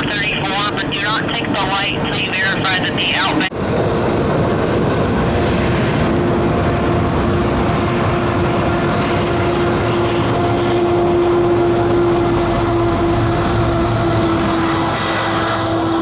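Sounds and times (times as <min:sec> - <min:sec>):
steady humming tone: 0:00.0 - 0:16.0
train wheels rumbling on rail: 0:00.0 - 0:16.0.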